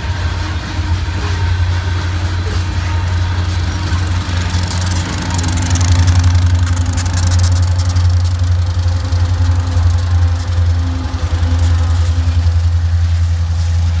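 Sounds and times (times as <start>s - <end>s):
locomotive engines droning: 0.0s - 14.0s
steel wheels rattling on rails: 0.0s - 14.0s.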